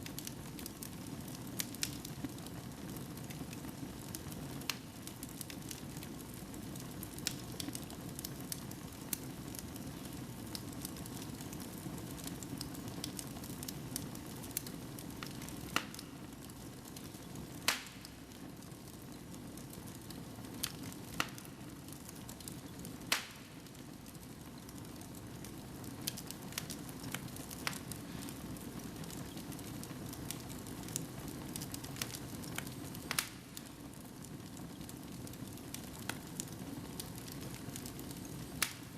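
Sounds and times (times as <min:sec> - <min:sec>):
fire crackling and popping: 0:00.0 - 0:38.9
low rush of flames: 0:00.0 - 0:38.9.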